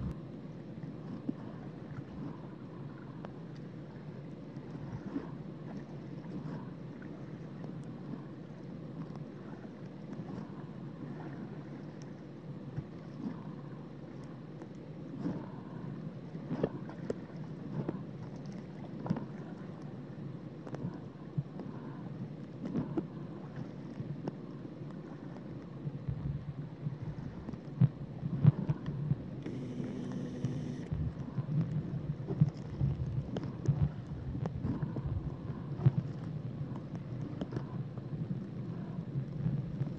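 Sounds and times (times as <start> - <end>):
low underwater rumble: 0.0 - 14.3, 15.0 - 39.9.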